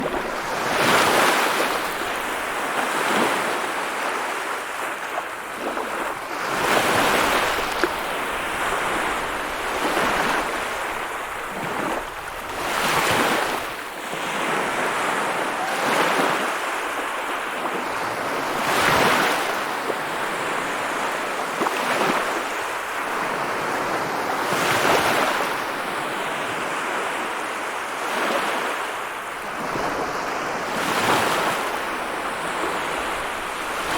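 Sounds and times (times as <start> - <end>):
sea waves breaking: 0.0 - 33.9.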